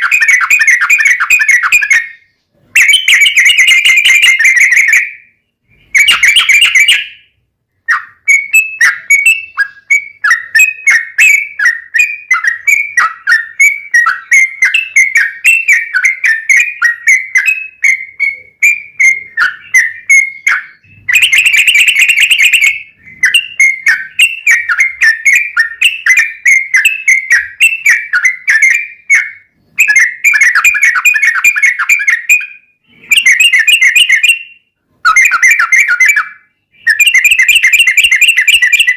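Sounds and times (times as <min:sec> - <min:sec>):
bulbul chattering song: 0:00.0 - 0:38.9.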